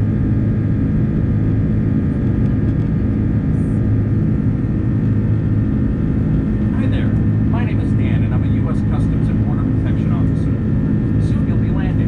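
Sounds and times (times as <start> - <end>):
jet airliner engines droning: 0.0 - 12.0.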